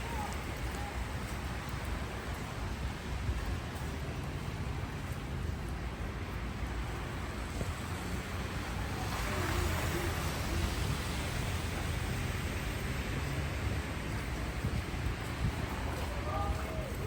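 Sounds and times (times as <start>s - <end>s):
street ambience with low rumble: 0.0s - 17.0s.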